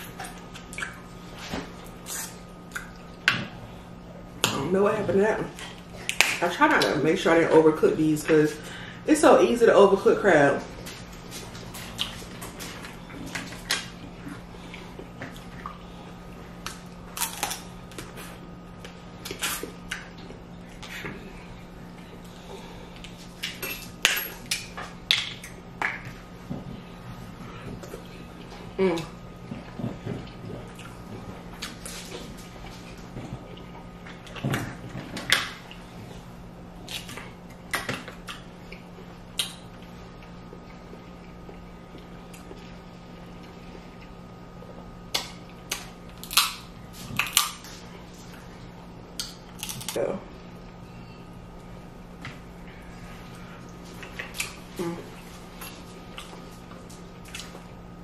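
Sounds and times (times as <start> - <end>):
low steady hum: 0.0 - 58.0
wet handling and eating sounds: 10.5 - 58.0.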